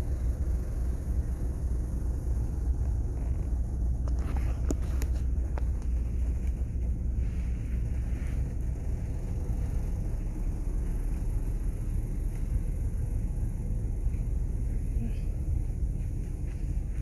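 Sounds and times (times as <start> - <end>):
ship machinery rumble: 0.0 - 17.0.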